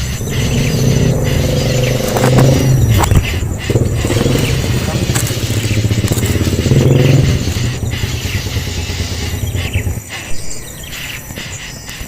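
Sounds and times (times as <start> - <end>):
engine running: 0.0 - 11.1.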